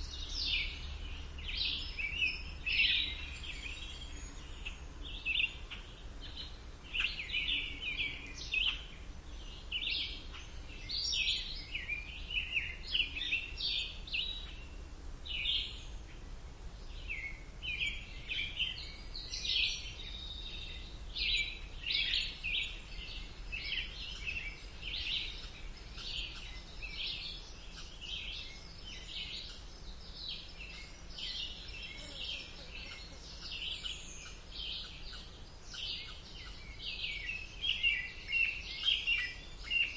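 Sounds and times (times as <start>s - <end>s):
low background rumble: 0.0s - 39.7s
songbirds chirping: 0.0s - 39.9s.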